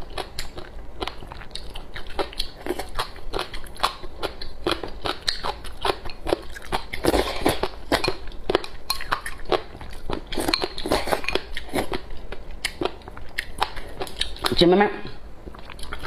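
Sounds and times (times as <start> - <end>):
wet crunchy chewing: 0.0 - 14.6.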